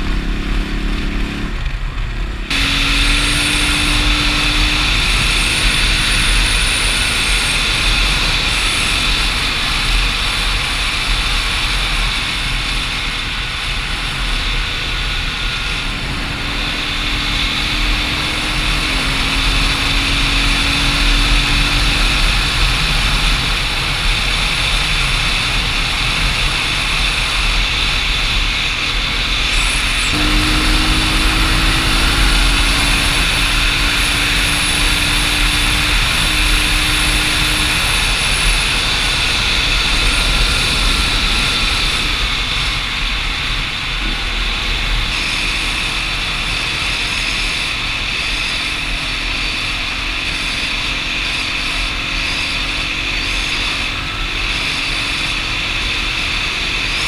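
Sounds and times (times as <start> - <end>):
motorcycle engine: 0.0 - 57.0
wind rushing over microphone: 0.0 - 57.0.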